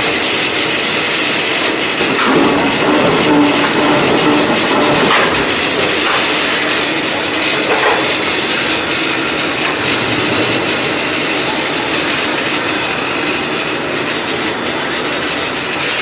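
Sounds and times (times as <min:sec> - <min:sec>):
machinery loud steady hissing: 0:00.0 - 0:16.0.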